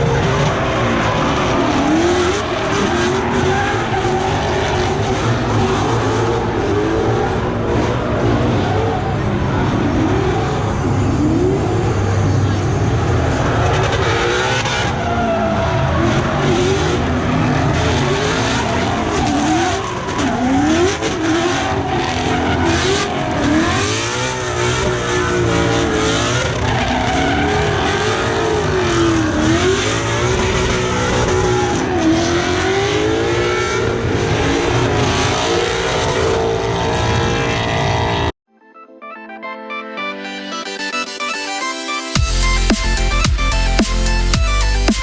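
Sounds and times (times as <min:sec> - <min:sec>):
tires squealing: 0:00.0 - 0:38.3
car engine revving: 0:00.0 - 0:38.4.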